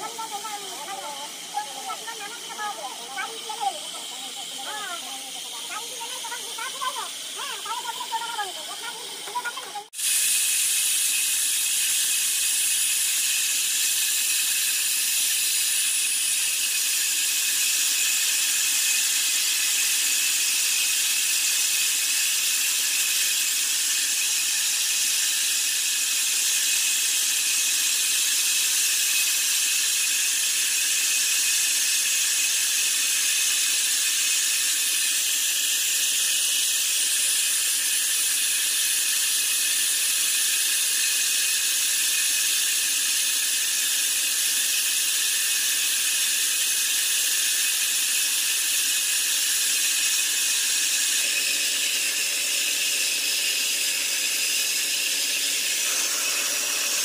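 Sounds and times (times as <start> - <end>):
band saw cutting log hiss: 0.0 - 57.0.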